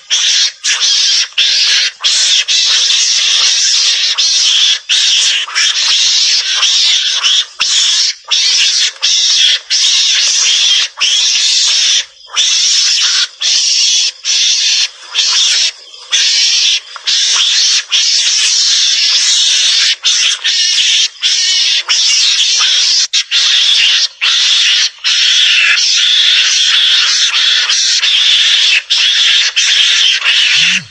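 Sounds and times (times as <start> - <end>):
mongoose hissing chatter: 0.0 - 30.9.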